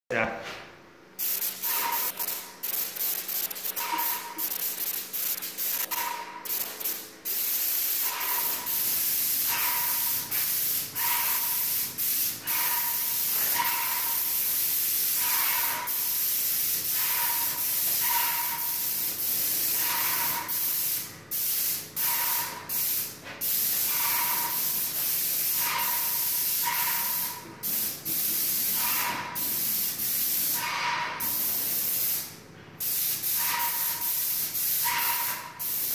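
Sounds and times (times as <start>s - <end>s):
paint spray gun hissing: 1.2s - 35.9s.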